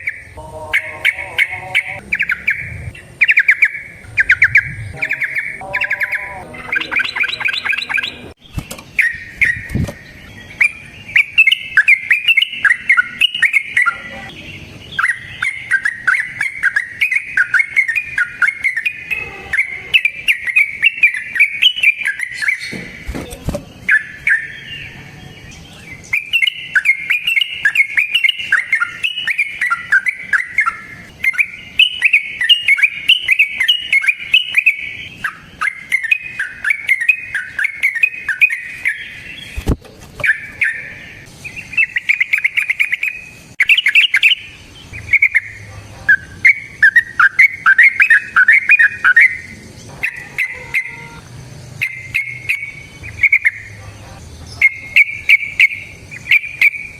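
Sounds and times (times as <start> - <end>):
bird singing bubbling notes: 0.0 - 23.1, 23.8 - 53.8, 54.6 - 56.9.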